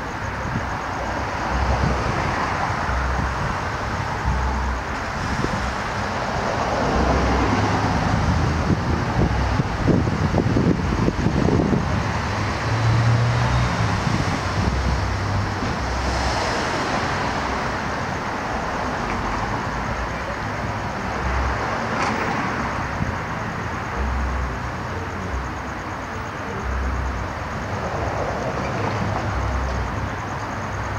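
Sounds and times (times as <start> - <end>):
hiss of passing cars: 0.0 - 30.9.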